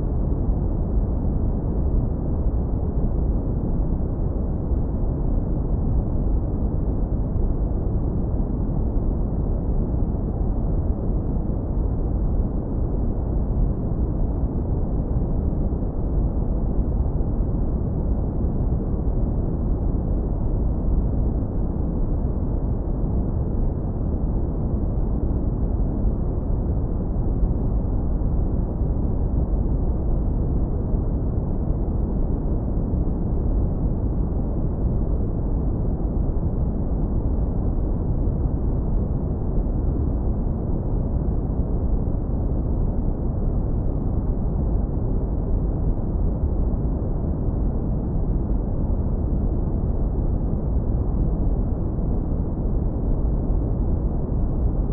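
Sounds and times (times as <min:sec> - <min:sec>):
deep brown noise rumble: 0:00.0 - 0:54.9.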